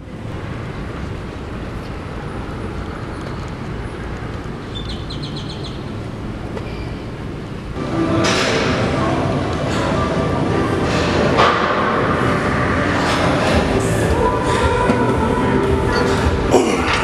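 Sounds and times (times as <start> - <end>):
traffic: 0.0 - 17.0.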